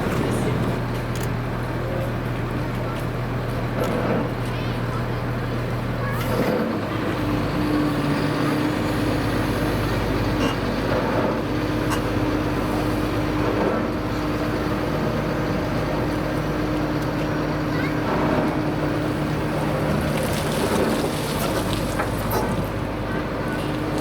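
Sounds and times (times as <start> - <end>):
outdoor city noise: 0.0 - 24.0.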